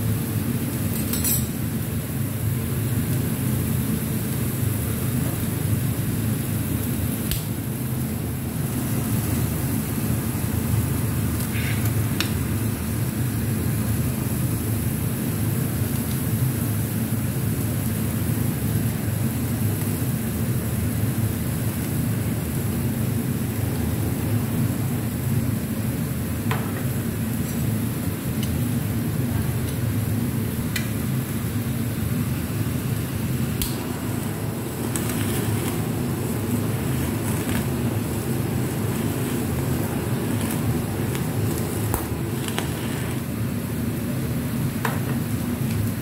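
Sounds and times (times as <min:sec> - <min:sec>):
kitchen torch roaring hiss: 0:00.0 - 0:46.0.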